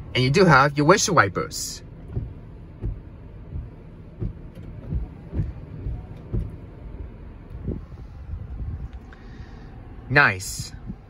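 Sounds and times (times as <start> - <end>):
car engine idling: 0.0 - 11.0
windshield wipers thumping: 0.0 - 11.0.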